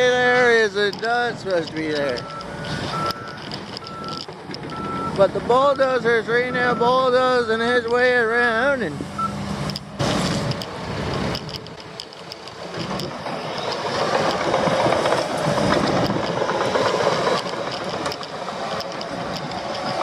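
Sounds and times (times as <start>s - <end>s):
bulldozer engine drone: 0.0s - 20.0s.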